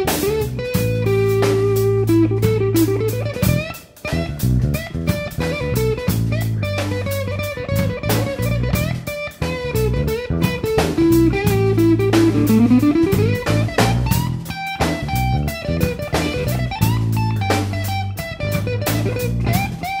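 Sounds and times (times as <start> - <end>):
bass: 0.0 - 20.0
guitar melody with sliding notes: 0.0 - 20.0
steady drum beat: 0.0 - 20.0.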